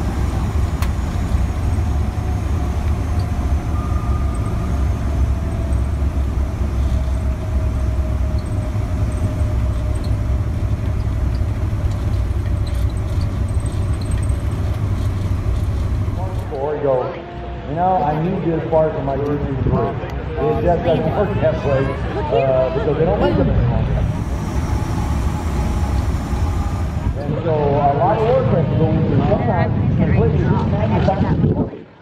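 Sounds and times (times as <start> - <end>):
deep drone of aircraft engines: 0.0 - 32.0.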